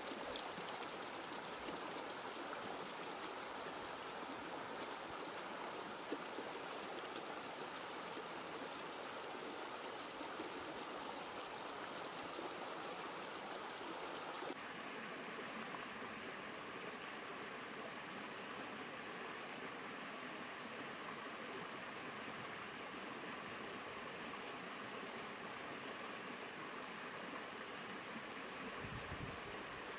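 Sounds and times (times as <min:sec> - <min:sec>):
stream running over rocks: 0:00.0 - 0:29.9.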